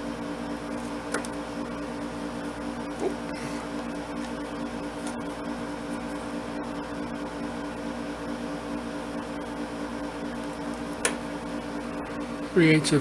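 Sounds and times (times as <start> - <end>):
fan or appliance humming: 0.0 - 13.0.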